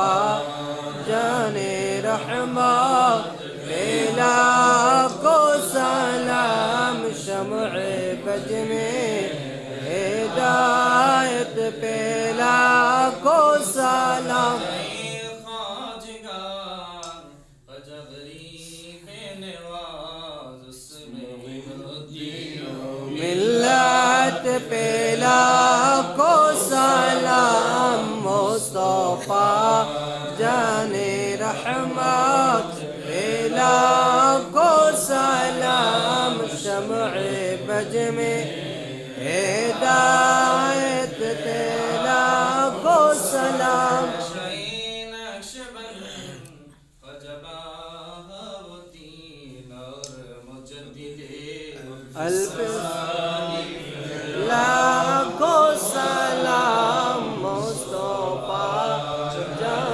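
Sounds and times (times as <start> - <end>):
men chanting: 0.0 - 17.0, 19.4 - 48.8, 49.5 - 59.9.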